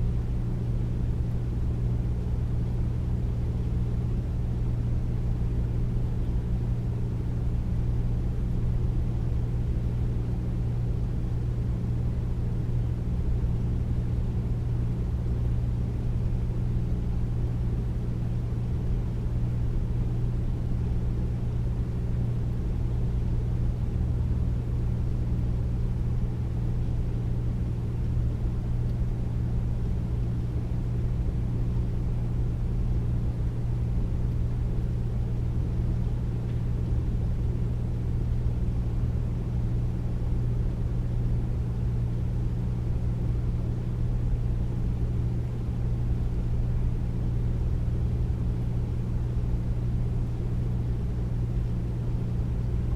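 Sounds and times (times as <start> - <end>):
air conditioner humming: 0.0 - 52.9.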